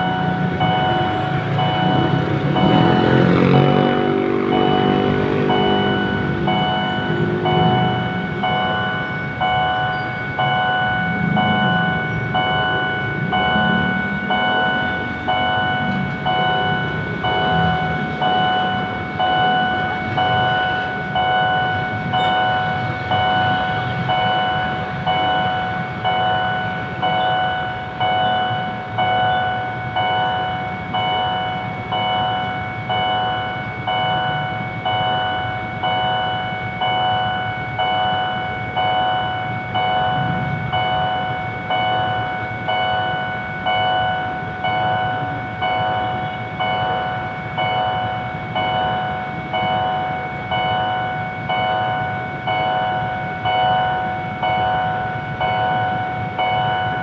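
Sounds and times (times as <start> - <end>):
level crossing bell ringing: 0.0 - 57.0
passing train rumble: 0.0 - 57.0.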